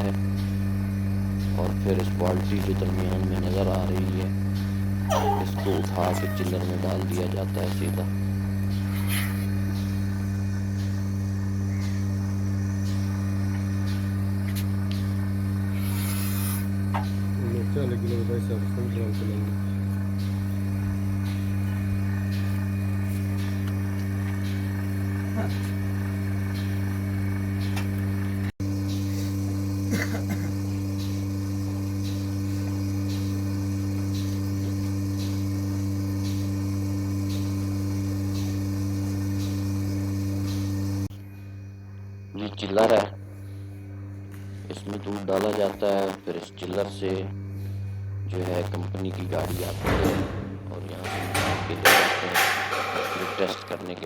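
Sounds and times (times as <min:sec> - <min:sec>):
faint pulsator ticks: 0:00.0 - 0:49.5
vacuum pump motor hum: 0:00.0 - 0:54.0.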